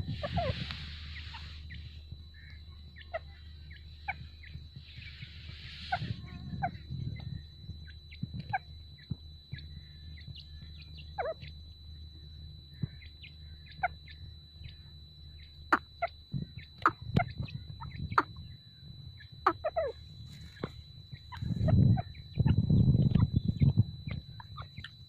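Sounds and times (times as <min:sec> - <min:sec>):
steady high whine: 0:00.0 - 0:25.0.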